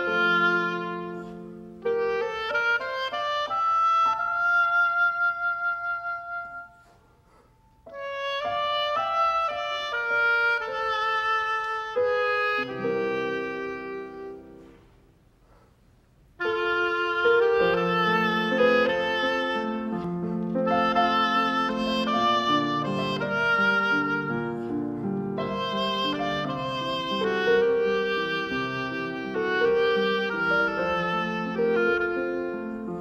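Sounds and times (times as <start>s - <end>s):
oboe: 0.0s - 15.0s, 16.4s - 33.0s
grand piano: 0.0s - 33.0s.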